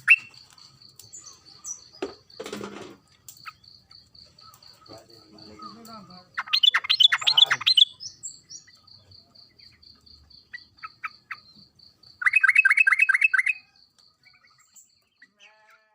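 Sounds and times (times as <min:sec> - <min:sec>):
bulbul chattering: 0:00.0 - 0:15.5.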